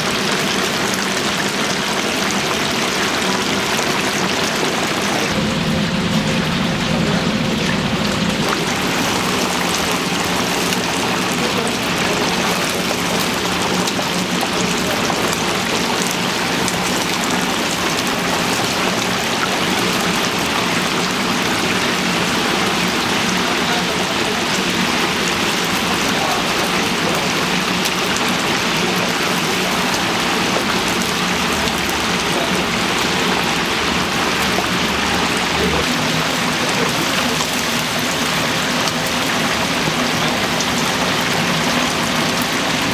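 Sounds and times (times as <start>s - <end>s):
chicken sizzling in hot oil: 0.0s - 42.9s.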